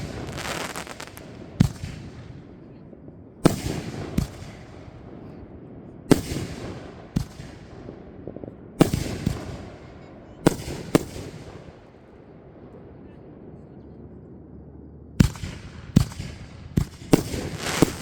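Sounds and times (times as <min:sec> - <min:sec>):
fireworks bangs with echoing rumble: 0:00.0 - 0:13.7, 0:15.2 - 0:18.0.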